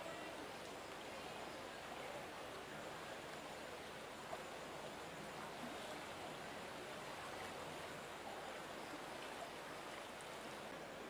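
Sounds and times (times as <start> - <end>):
rush of floodwater: 0.0 - 11.0.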